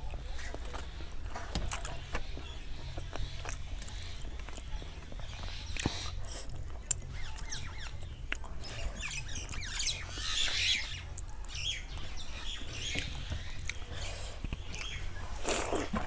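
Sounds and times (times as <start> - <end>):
birds chirping: 0.0 - 16.0
chewing and lip smacks: 0.0 - 16.0.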